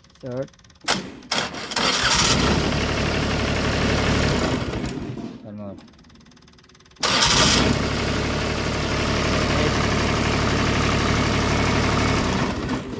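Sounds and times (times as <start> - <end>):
engine starting and idling: 0.6 - 12.9.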